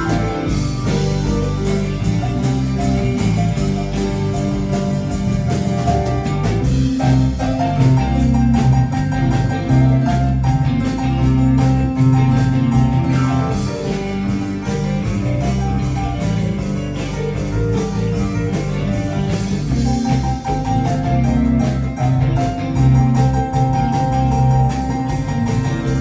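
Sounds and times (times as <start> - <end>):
drums: 0.0 - 26.0
held bass notes: 0.0 - 26.0.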